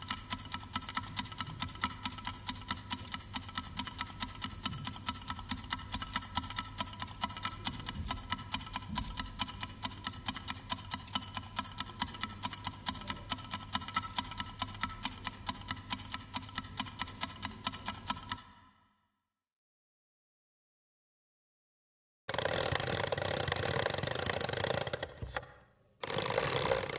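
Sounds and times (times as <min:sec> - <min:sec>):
clock ticking fast: 0:00.0 - 0:18.4, 0:22.3 - 0:26.9.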